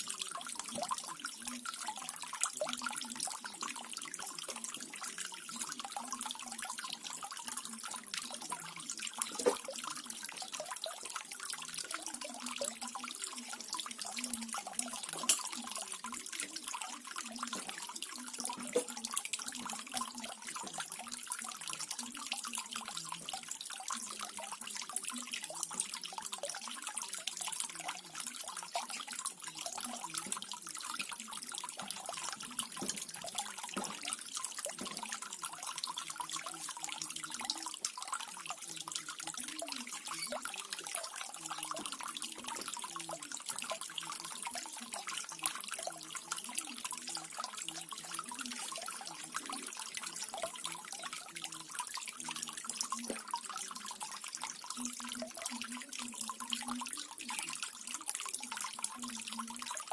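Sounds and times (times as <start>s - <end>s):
water drips and plops: 0.0s - 59.9s.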